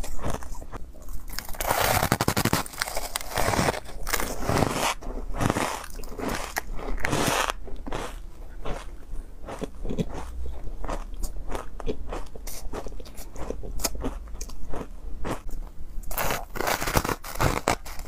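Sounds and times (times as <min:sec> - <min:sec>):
ice crunching while chewed: 0:00.0 - 0:18.0.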